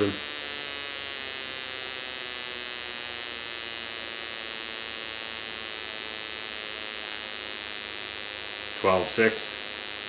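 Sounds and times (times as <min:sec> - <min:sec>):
spark plug electric buzz: 0:00.0 - 0:10.0.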